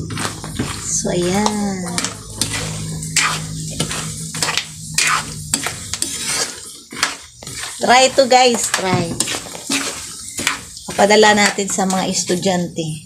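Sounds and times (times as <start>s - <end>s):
metal spatula scraping peanuts in pan: 0.0s - 13.0s.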